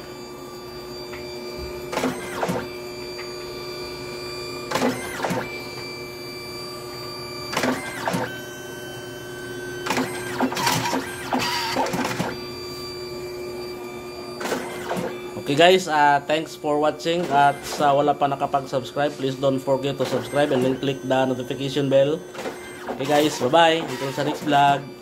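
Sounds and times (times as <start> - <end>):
photo printer humming: 0.0 - 25.0
printer mechanical bursts: 0.9 - 25.0.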